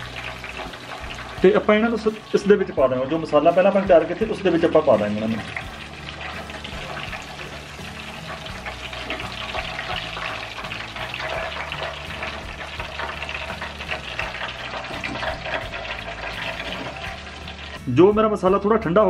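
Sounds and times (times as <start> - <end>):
eggplants sizzling in hot oil: 0.0 - 18.1.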